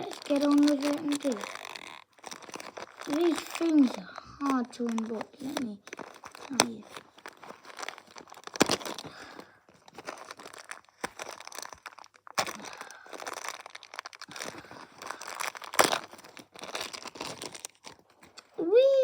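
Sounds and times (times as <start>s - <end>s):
packaging crinkling and tearing: 0.0s - 18.6s
sharp packaging cracks: 0.0s - 18.6s.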